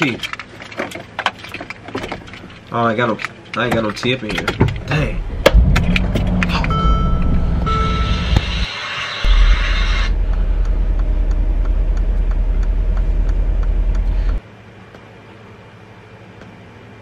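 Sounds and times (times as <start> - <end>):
car road and engine rumble: 0.4 - 14.5.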